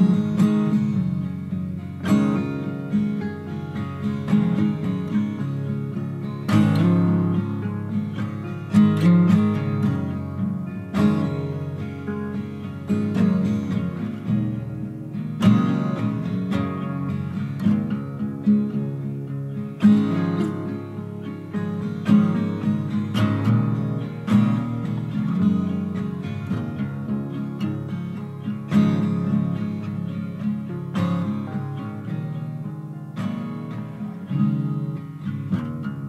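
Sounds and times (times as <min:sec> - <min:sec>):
acoustic guitar plucking and strumming: 0:00.0 - 0:36.0.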